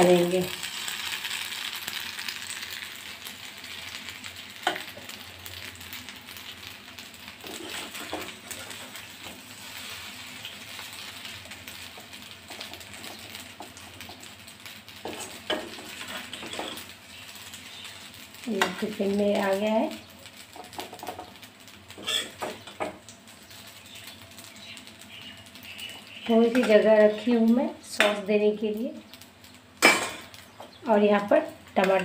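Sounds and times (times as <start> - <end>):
pasta sizzling in pan: 0.0 - 32.0.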